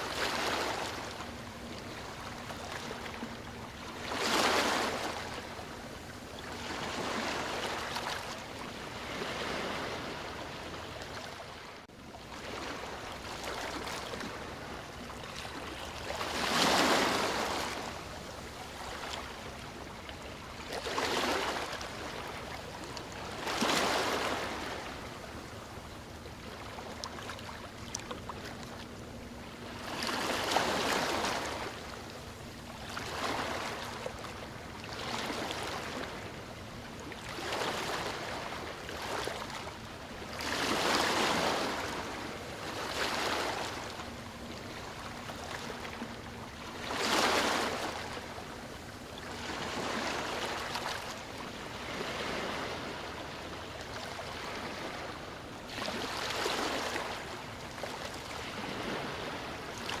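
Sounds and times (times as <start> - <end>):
sea waves washing ashore: 0.0 - 60.0.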